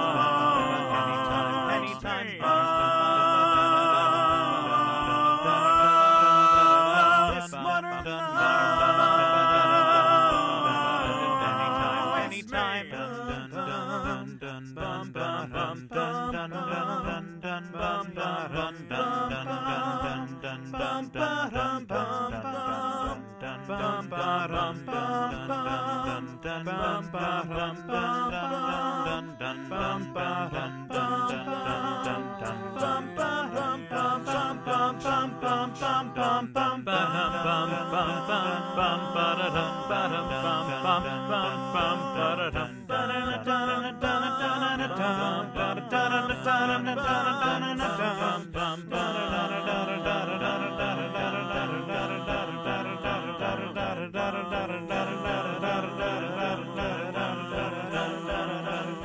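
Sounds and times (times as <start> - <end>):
layered voices singing chords: 0.0 - 59.0.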